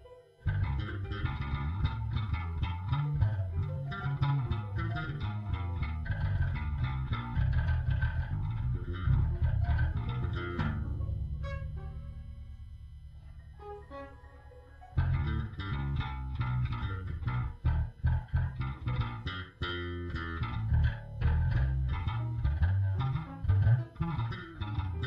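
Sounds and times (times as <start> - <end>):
tapped guitar music: 0.0 - 25.0.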